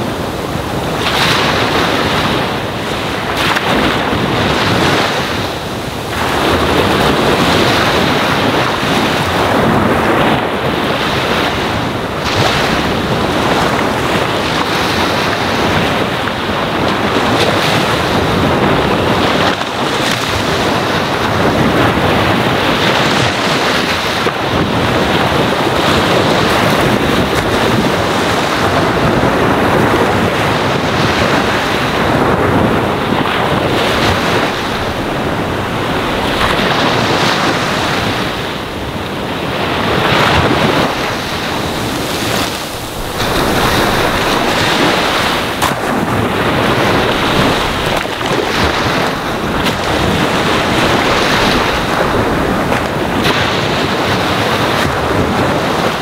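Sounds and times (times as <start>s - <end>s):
ocean waves on sandy shore: 0.0s - 56.0s.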